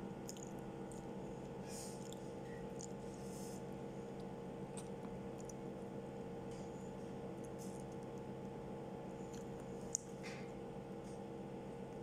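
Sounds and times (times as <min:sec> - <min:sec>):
soft chewing: 0:00.0 - 0:05.9, 0:06.5 - 0:11.2
low electrical hum: 0:00.0 - 0:12.0.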